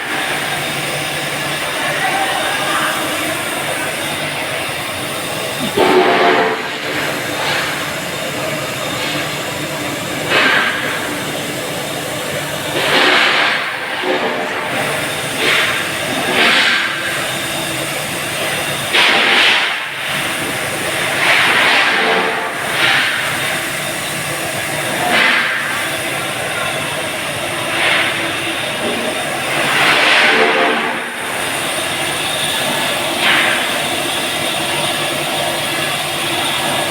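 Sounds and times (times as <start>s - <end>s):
machinery humming: 0.0s - 36.9s.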